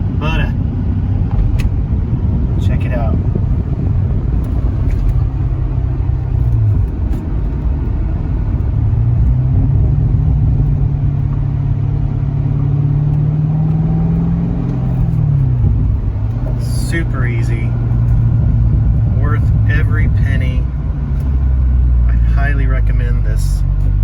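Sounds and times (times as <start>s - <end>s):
car engine shifting gears: 0.0s - 24.0s
road rumble: 0.0s - 24.0s.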